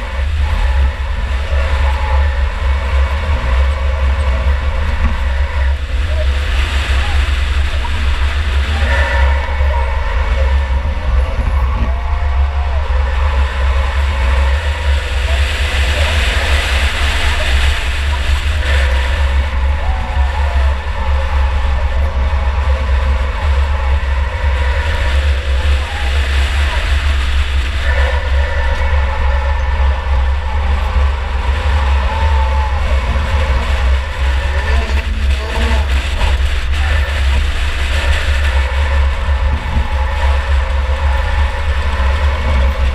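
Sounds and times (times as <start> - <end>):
low rumble of road noise: 0.0 - 42.9
race car engine: 0.0 - 42.9
wind buffeting microphone: 0.0 - 42.9.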